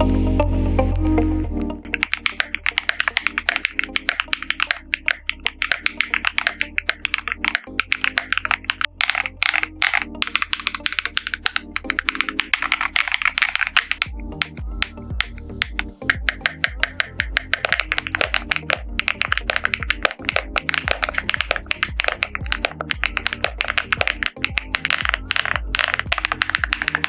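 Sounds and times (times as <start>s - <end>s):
mechanical keyboard typing: 1.9s - 27.0s.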